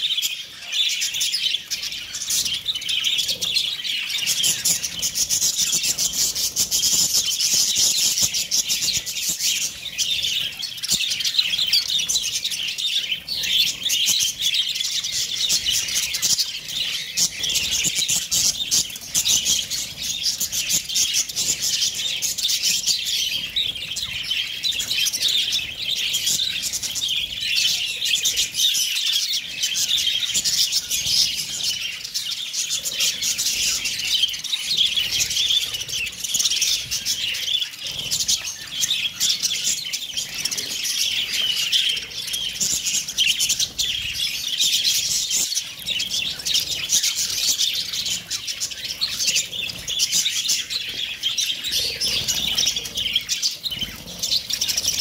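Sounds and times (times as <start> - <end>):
budgerigars chirping: 0.0 - 55.0.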